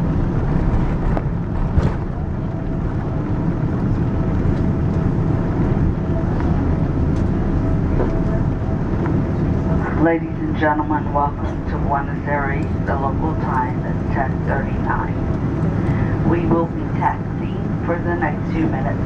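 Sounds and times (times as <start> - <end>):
aircraft wheels rumbling on runway: 0.0 - 19.0
jet engines: 0.0 - 19.0.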